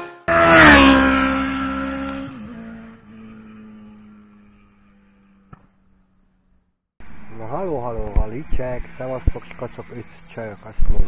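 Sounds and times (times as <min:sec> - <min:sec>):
motorcycle passing at speed: 0:00.2 - 0:11.0.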